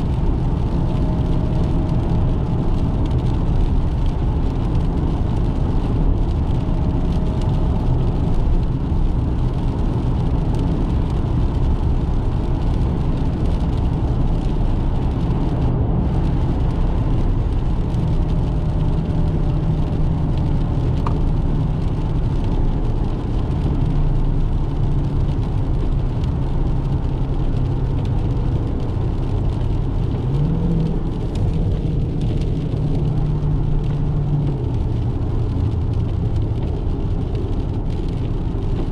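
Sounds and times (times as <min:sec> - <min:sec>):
car engine drone: 0:00.0 - 0:38.9
road noise: 0:00.0 - 0:38.9.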